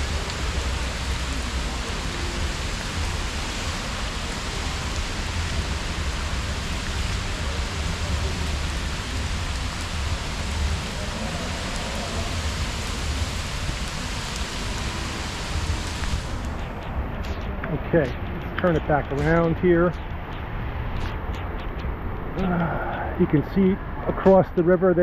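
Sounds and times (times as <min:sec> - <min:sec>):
low rumble: 0:00.0 - 0:24.1
heavy rain hissing: 0:00.0 - 0:25.0.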